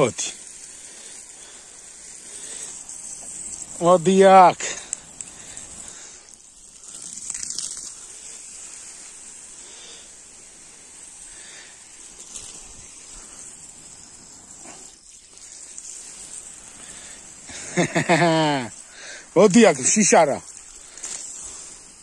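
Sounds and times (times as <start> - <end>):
garden hose spraying water: 0.0 - 22.0.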